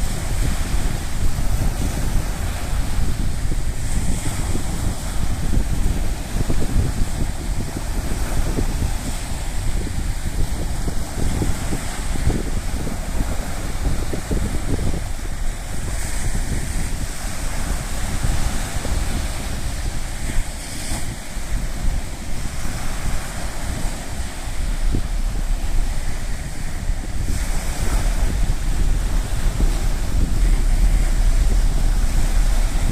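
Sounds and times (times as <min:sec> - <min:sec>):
sea waves washing ashore: 0:00.0 - 0:32.9
wind buffeting microphone: 0:00.0 - 0:32.9.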